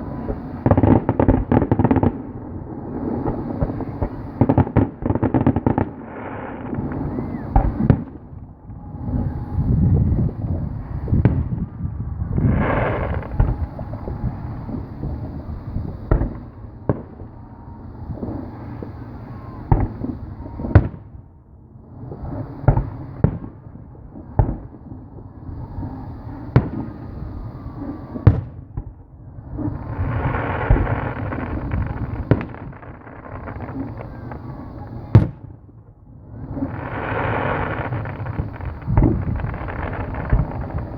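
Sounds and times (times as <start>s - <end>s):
fireworks bangs: 0.0s - 21.2s, 22.0s - 23.6s, 25.5s - 40.9s
fireworks crackling: 0.0s - 21.2s, 22.0s - 40.9s
continuous rumble: 0.0s - 40.9s.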